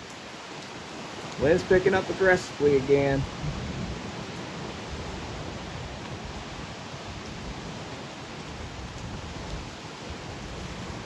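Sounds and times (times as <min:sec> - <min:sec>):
strong gusty wind: 0:00.8 - 0:11.0.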